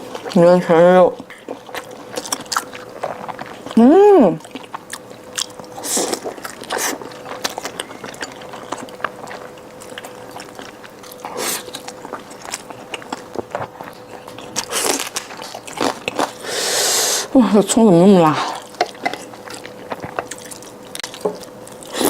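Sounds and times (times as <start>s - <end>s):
person chewing food: 0.0s - 17.3s, 18.4s - 22.0s
faint steady hum: 0.0s - 22.0s.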